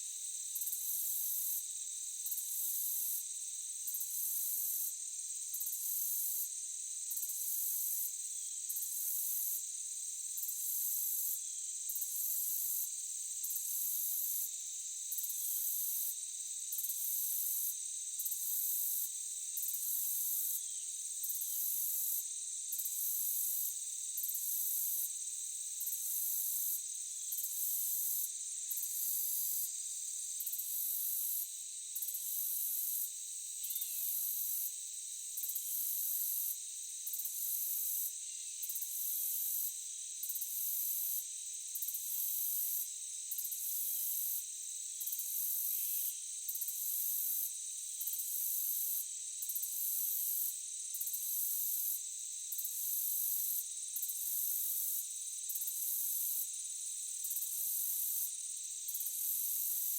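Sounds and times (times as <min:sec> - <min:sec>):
insects droning: 0:00.1 - 0:49.7.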